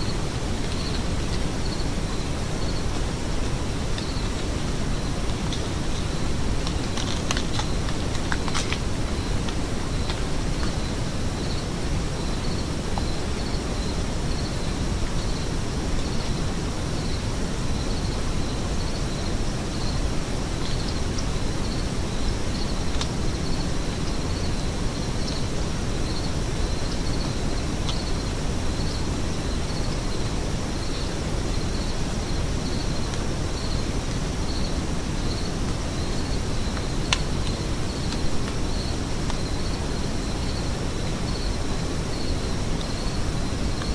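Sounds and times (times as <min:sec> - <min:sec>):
cricket chirping: 0:00.0 - 0:43.9
low outdoor noise: 0:00.0 - 0:43.9.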